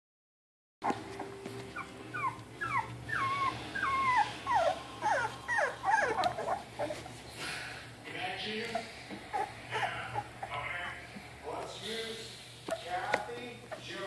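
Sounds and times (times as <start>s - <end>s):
puppies whimpering: 0.8s - 14.0s.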